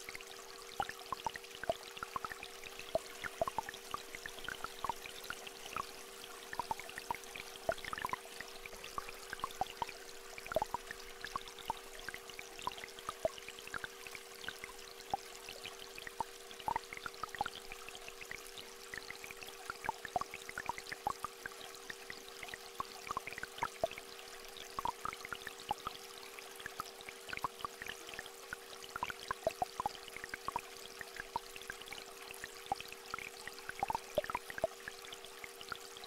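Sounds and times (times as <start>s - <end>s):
stream trickling: 0.0s - 36.0s.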